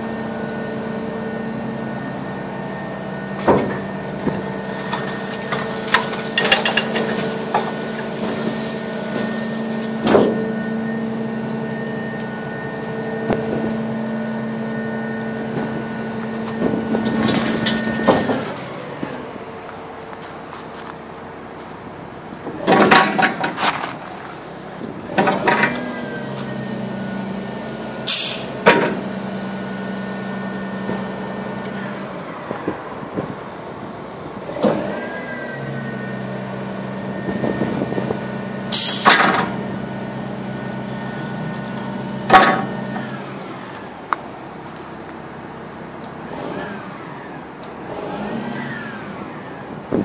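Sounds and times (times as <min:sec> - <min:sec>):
hydraulic whine: 0:00.0 - 0:20.1, 0:24.5 - 0:44.6, 0:45.3 - 0:50.0.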